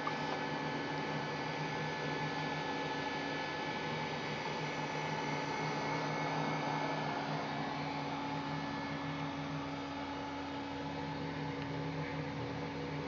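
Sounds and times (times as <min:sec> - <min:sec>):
cooling fan whirring: 0:00.0 - 0:13.0
electrical hum: 0:00.0 - 0:13.0.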